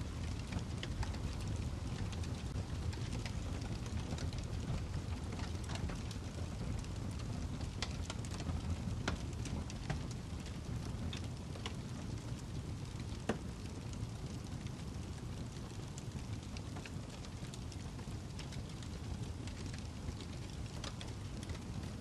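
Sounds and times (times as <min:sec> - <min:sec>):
crackles and pops of burning log: 0:00.0 - 0:22.0
wood fire burning: 0:00.0 - 0:22.0.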